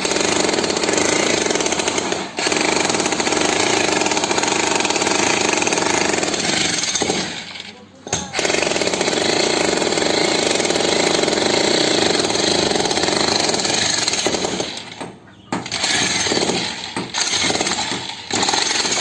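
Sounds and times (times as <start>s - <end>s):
jackhammer breaking concrete: 0.0s - 19.0s.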